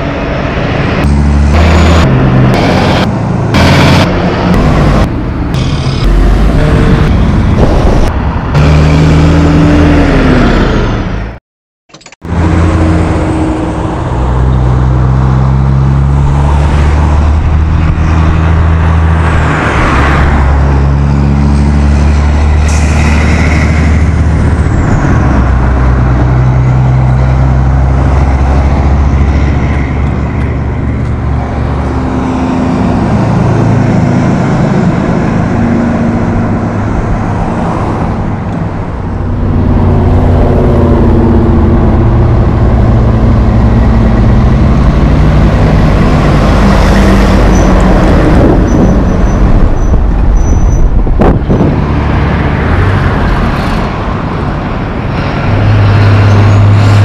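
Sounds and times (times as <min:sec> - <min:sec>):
truck diesel engines: 0:00.0 - 0:57.0
tyre and road noise: 0:00.0 - 0:57.0.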